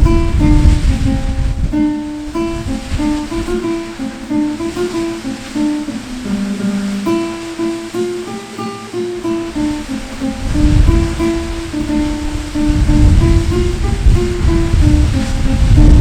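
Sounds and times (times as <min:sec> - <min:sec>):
falling water rushing: 0:00.0 - 0:16.0
plucked acoustic guitar: 0:00.0 - 0:16.0.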